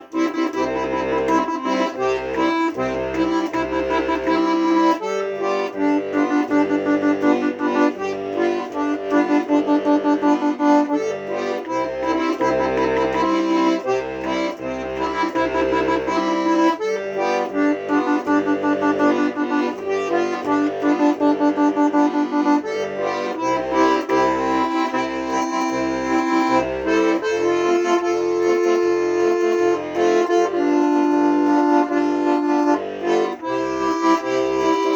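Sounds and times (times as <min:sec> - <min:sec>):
solo accordion playing tune: 0:00.0 - 0:34.9.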